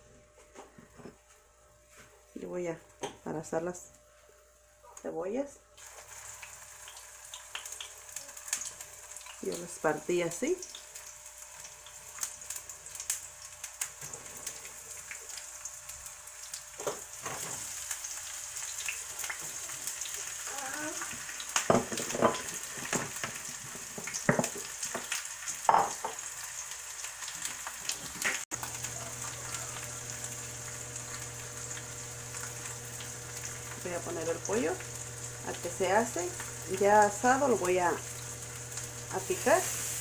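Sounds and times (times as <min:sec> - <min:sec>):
onions sizzling in hot oil: 0:05.8 - 0:40.0.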